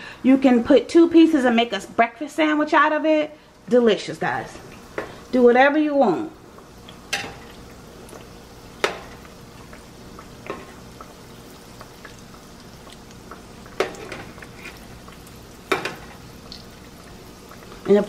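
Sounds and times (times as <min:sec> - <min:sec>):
dough sizzling in oil: 0:02.6 - 0:18.0.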